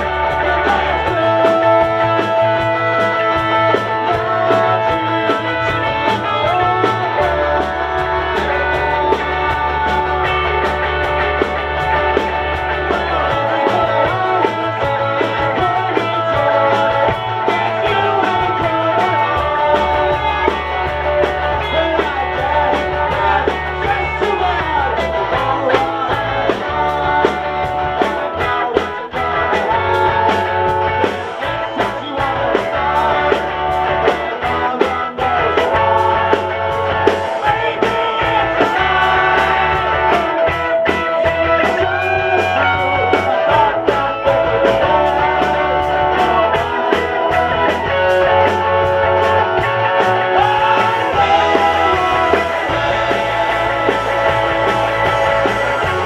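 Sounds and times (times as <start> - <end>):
drum beat: 0.0 - 56.0
electric bass notes: 0.0 - 56.0
electric guitars: 0.0 - 56.0.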